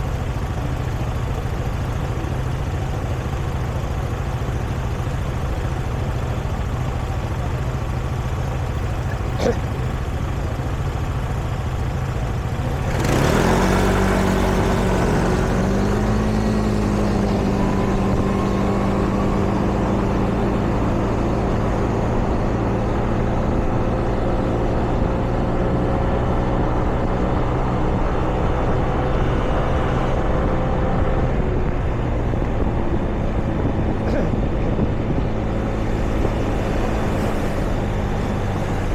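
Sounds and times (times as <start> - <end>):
nearby engine humming: 0.0 - 25.5, 31.6 - 38.9
street traffic rumble: 0.0 - 38.9.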